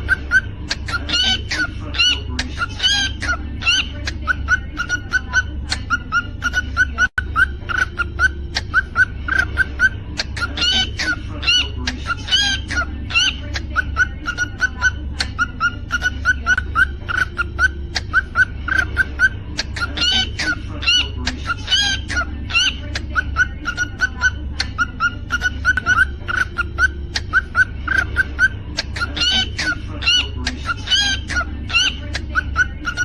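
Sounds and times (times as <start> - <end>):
cockatiel chirping: 0.0 - 33.0.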